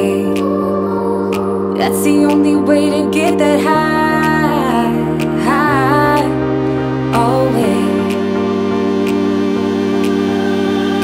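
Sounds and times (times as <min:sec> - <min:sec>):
chord accompaniment with soft beat: 0:00.0 - 0:11.0.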